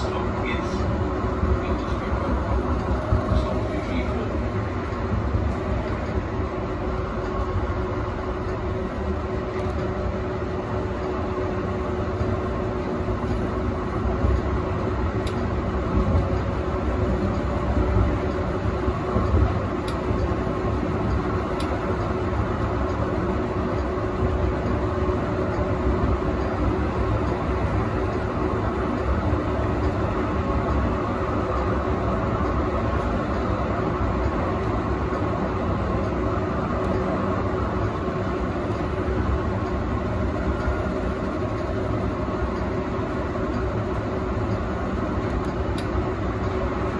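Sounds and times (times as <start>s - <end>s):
constant low hum: 0.0s - 46.9s
tram wheels rumbling on rails: 0.0s - 46.9s.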